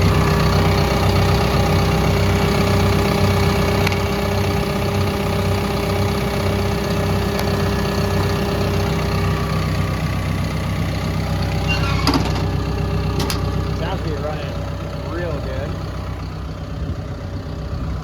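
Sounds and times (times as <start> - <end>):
bulldozer diesel engine idling: 0.0 - 18.0.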